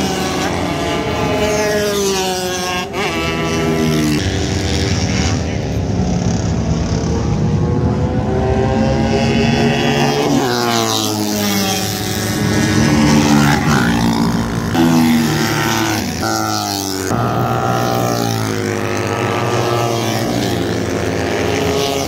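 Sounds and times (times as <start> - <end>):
racing motorcycle engines: 0.0 - 22.0.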